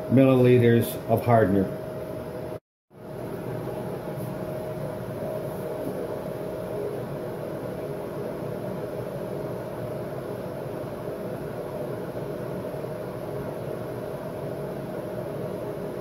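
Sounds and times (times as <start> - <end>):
mechanical hum with rushing noise: 0.0 - 16.0.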